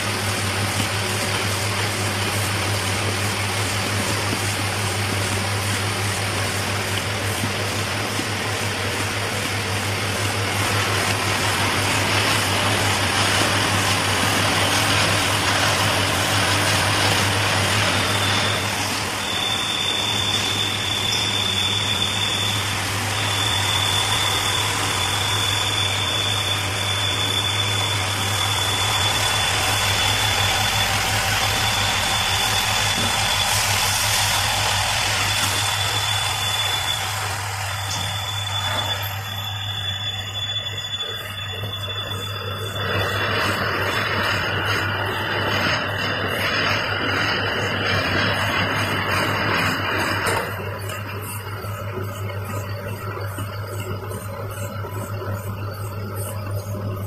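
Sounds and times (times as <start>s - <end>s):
high machine whine: 0.0s - 57.0s
machine humming and clattering: 0.0s - 57.0s.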